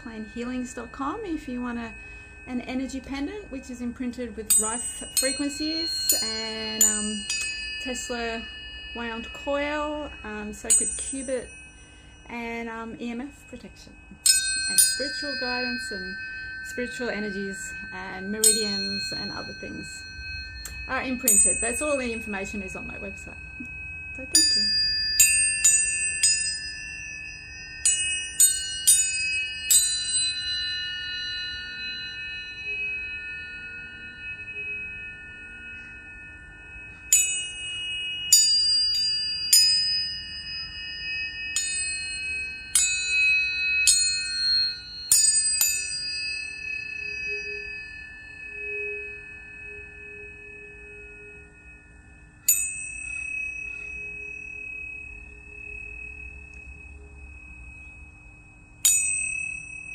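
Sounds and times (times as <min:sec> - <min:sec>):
tuning forks ringing: 0:00.0 - 0:59.9.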